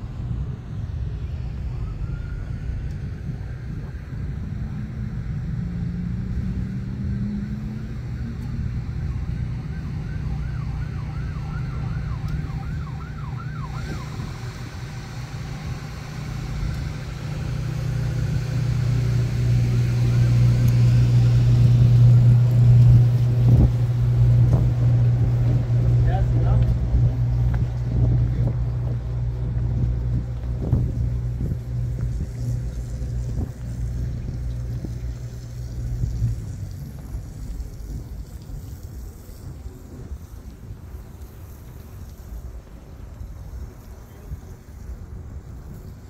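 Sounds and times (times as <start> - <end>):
steady low hum: 0.0 - 46.0
wind buffeting microphone: 0.0 - 46.0.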